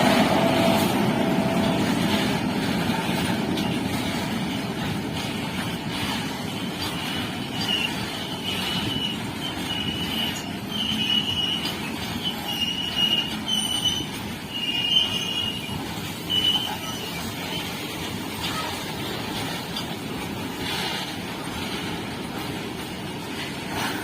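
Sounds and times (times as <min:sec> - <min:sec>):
train wheels squealing: 0:00.0 - 0:22.6
train rumbling on rails: 0:00.0 - 0:24.0.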